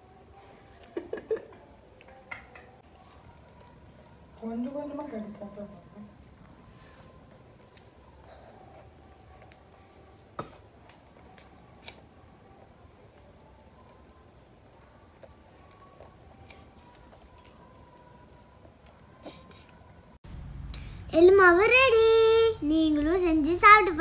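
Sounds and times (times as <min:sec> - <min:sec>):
insect chirping: 0:00.0 - 0:20.2.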